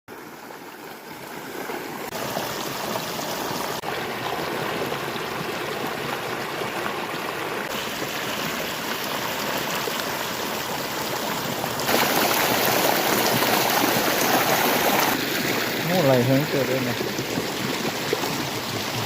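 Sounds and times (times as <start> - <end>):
water rushing and flowing: 0.1 - 19.0.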